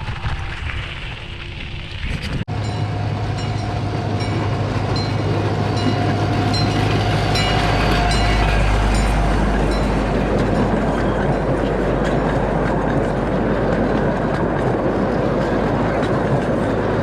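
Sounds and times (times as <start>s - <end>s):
miniature train rumbling: 0.0s - 17.0s
wheels clicking on rails: 0.0s - 17.0s.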